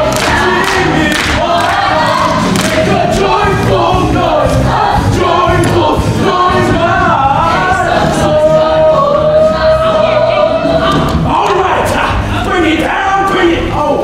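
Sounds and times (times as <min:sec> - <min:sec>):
chorus singing together: 0:00.0 - 0:14.0.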